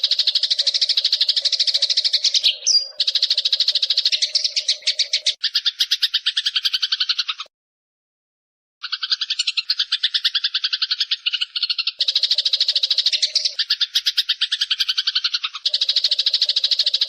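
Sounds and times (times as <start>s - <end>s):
sparrow rapid chatter: 0.0s - 7.5s, 8.8s - 17.0s.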